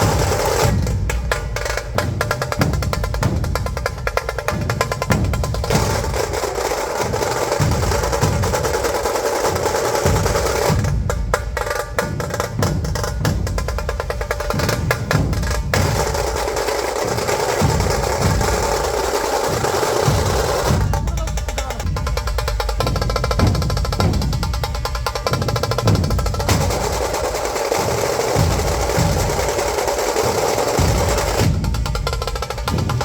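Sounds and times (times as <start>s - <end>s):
deep drum beats: 0.0s - 33.0s
rapid snare-like drum rolls: 0.0s - 33.0s.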